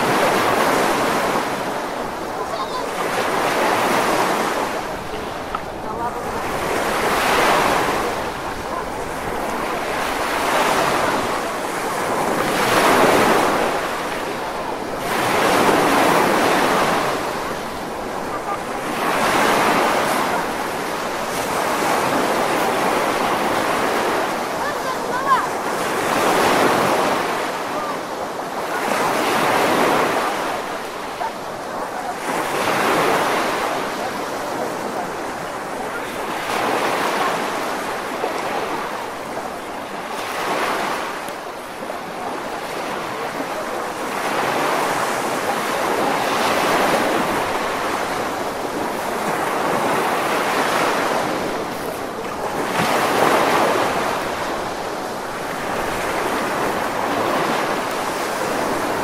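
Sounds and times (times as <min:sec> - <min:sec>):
surf washing up a shore: 0:00.0 - 0:59.0.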